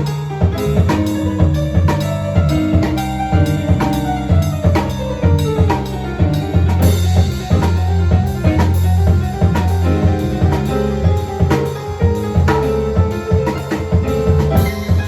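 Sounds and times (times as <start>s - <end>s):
drum kit groove: 0.0s - 15.0s
low bass notes and melody: 0.0s - 15.0s.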